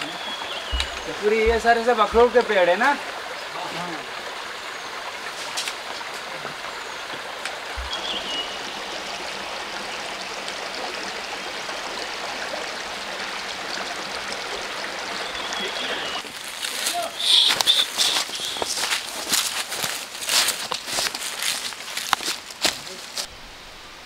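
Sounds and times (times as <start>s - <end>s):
stream water flowing: 0.0s - 23.8s.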